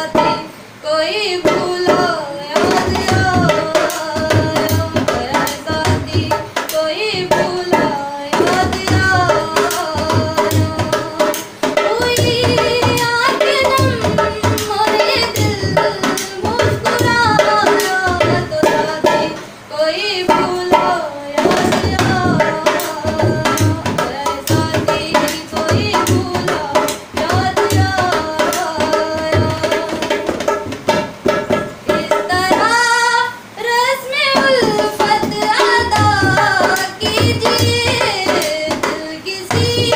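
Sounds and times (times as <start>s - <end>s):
hand drum beating rhythm: 0.0s - 0.6s, 1.3s - 39.9s
woman singing folk song: 0.0s - 30.6s, 31.6s - 39.9s.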